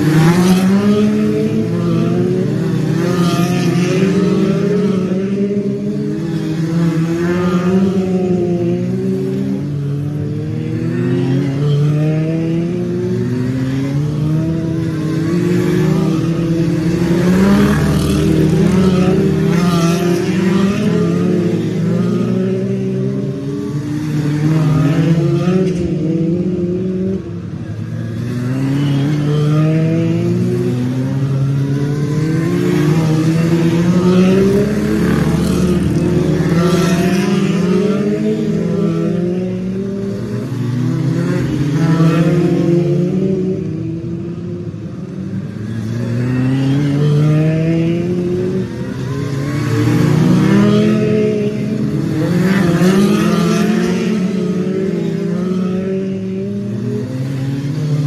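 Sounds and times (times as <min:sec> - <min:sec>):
stock car engines racing: 0:00.0 - 0:58.0.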